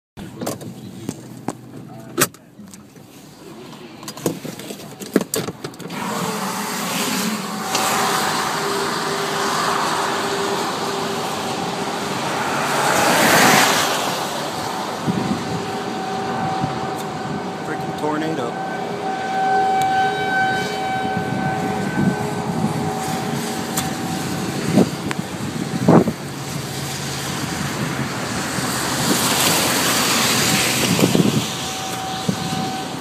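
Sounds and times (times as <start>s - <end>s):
wind and rain on car: 3.0s - 18.2s, 20.9s - 33.0s.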